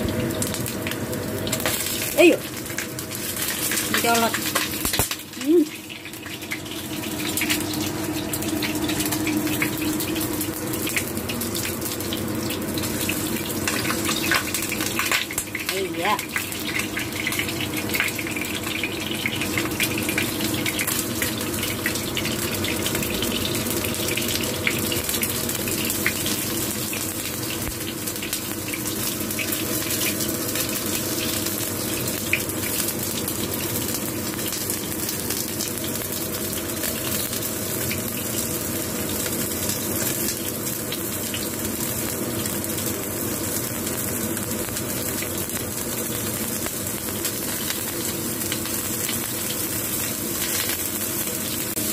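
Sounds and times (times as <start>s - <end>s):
oil sizzling in a pan: 0.0s - 51.9s.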